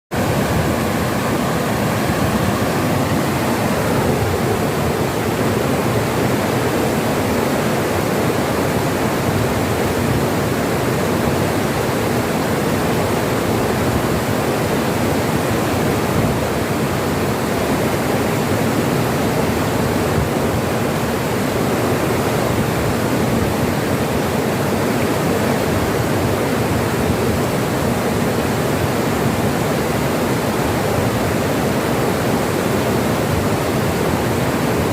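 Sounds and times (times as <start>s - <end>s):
water rushing over stones: 0.1s - 34.9s.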